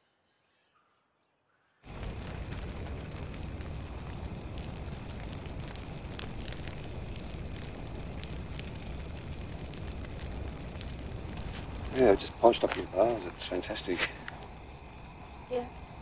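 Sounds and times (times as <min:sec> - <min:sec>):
bonfire crackling and roaring: 0:01.8 - 0:16.0.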